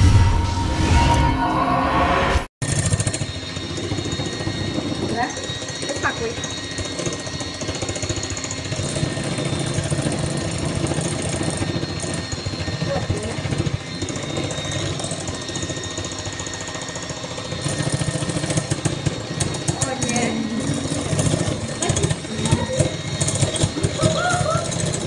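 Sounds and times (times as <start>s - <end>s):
electric hand mixer whirring: 2.6s - 25.0s.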